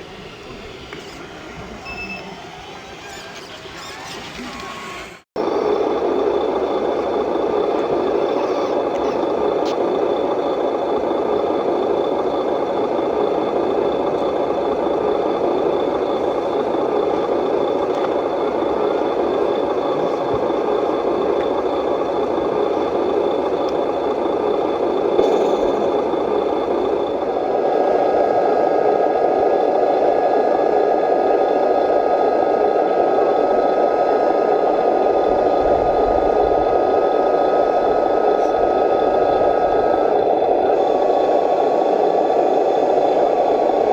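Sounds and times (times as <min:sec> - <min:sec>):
thin high whine: 0:00.0 - 0:43.9.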